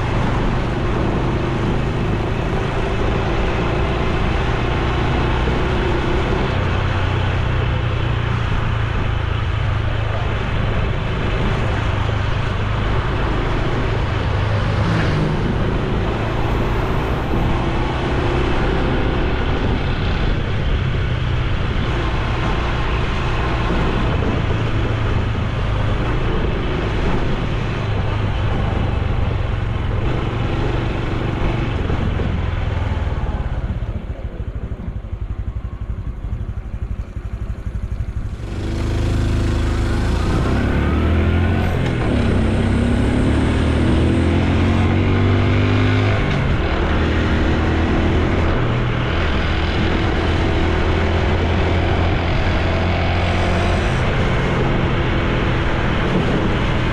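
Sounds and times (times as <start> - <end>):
motorcycle engine accelerating: 0.0 - 56.9
wind noise on microphone: 0.0 - 56.9.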